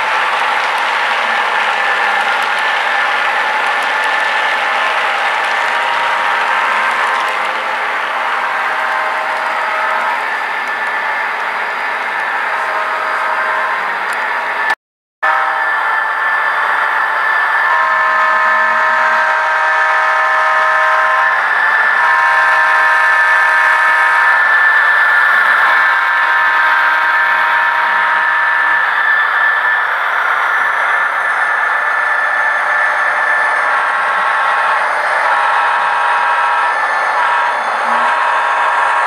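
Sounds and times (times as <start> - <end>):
diesel engine sound: 0.0 - 39.0
train running noise: 0.0 - 39.0
model locomotive air horn blasts: 0.1 - 11.2, 12.4 - 13.9, 15.2 - 29.7, 32.3 - 39.0.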